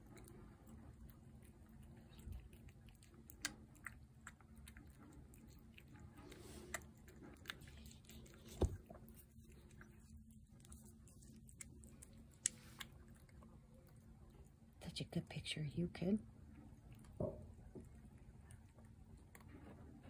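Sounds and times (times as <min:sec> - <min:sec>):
cat chewing: 0:00.0 - 0:14.8, 0:16.2 - 0:20.0.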